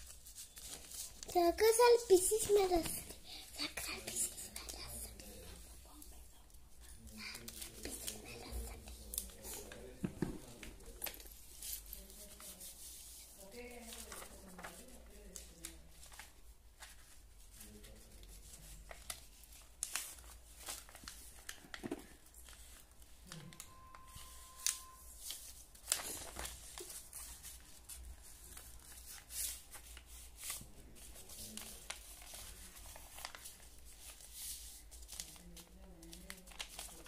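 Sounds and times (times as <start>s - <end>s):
paper rustling and crinkling: 0.0s - 37.0s.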